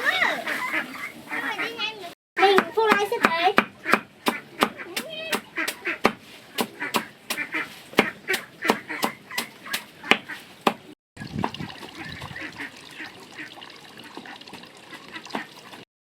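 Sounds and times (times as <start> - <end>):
ducks quacking and honking: 0.1 - 2.6, 3.2 - 10.5, 11.8 - 15.8.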